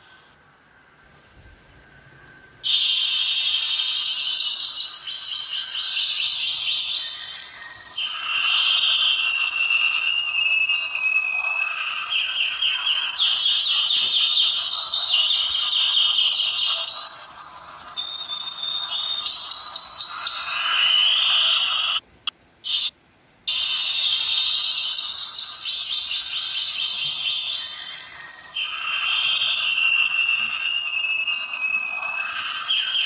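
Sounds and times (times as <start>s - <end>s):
finches chirping and trilling: 2.6s - 22.0s, 22.6s - 22.9s, 23.5s - 33.0s.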